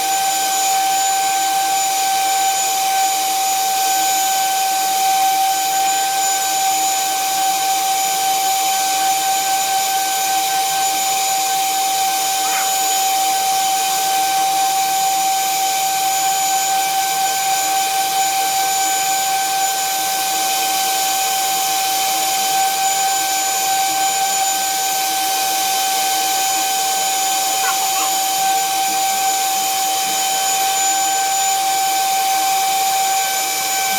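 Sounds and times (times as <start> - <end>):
power drill whining: 0.0 - 33.9.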